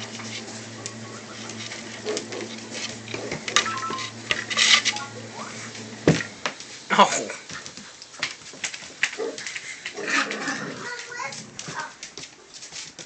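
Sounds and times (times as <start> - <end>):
claws scratching on floor: 0.0 - 5.1, 7.5 - 13.0
puppies scuffling: 0.0 - 13.0.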